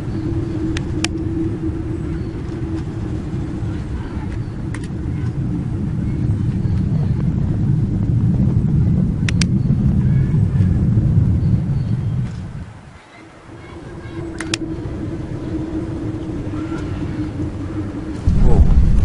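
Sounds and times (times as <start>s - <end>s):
deep rumbling drone: 0.0s - 19.0s
faint higher hum: 0.0s - 19.0s.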